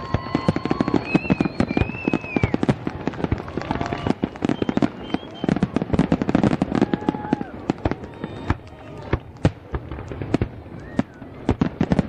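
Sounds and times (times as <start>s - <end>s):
firework whistles: 0.0s - 12.0s
fireworks bangs and crackles: 0.0s - 12.0s.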